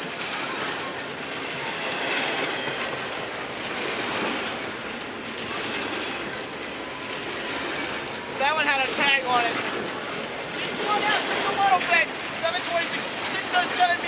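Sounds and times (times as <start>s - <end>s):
freight cars rolling on rails: 0.0s - 14.0s.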